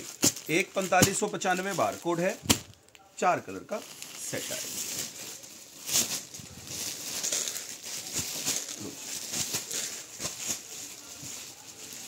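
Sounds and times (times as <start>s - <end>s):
cloth and plastic wrapping rustling: 0.0s - 12.0s.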